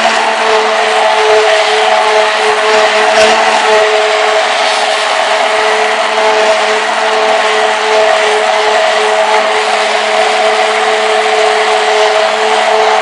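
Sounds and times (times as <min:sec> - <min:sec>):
liquid churning: 0:00.0 - 0:13.0
stick blender motor whine: 0:00.0 - 0:13.0.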